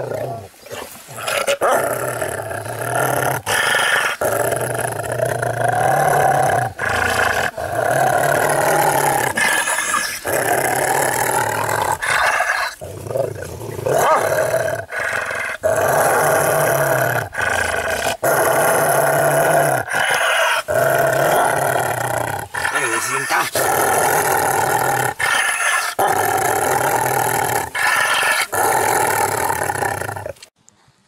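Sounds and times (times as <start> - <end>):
dog growling and snarling: 0.0 - 30.6.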